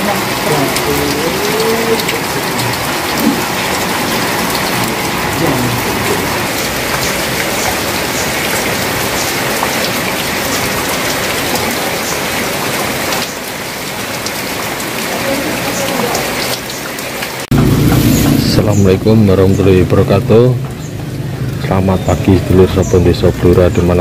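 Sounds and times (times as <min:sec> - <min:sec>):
rainwater dripping off roof: 0:00.0 - 0:24.0
steady rain falling: 0:00.0 - 0:24.0.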